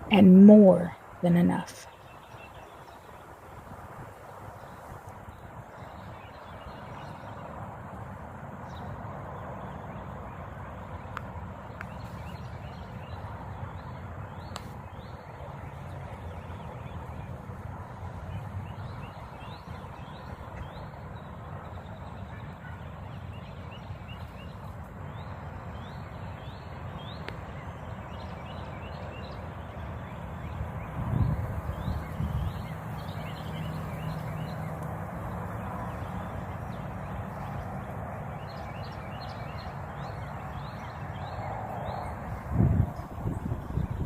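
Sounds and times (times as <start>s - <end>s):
birds chirping: 0.0s - 7.6s, 8.6s - 44.0s
outdoor background hiss: 0.0s - 44.0s.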